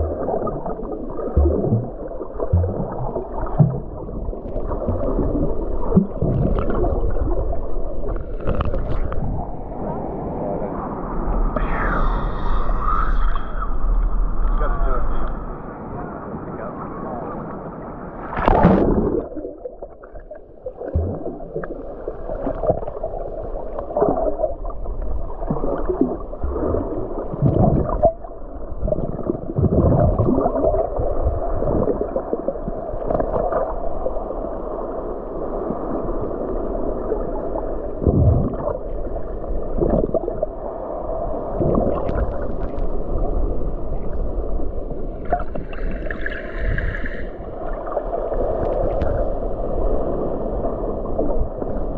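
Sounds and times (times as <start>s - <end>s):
muffled churning seawater: 0.0s - 51.9s.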